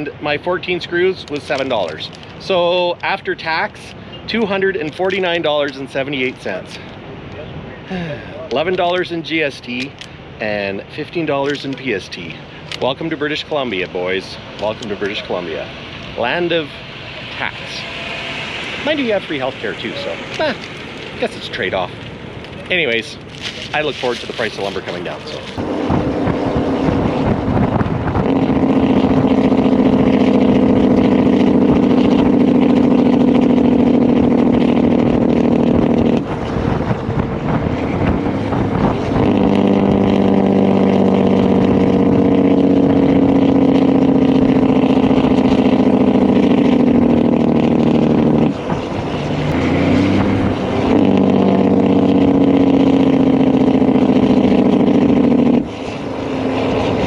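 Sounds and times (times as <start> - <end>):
truck diesel engine droning: 0.0 - 57.0.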